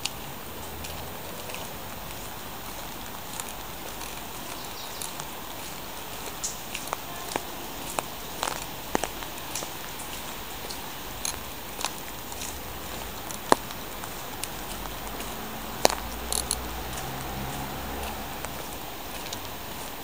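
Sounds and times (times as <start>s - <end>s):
light rain hiss: 0.0s - 20.0s
raindrop taps near microphone: 0.0s - 20.0s.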